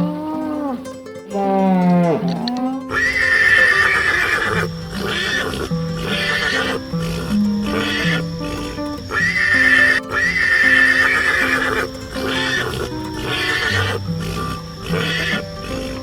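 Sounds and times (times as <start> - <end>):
horse whinnying: 0.0 - 8.2, 9.3 - 15.4
background music slow melody: 0.0 - 16.0.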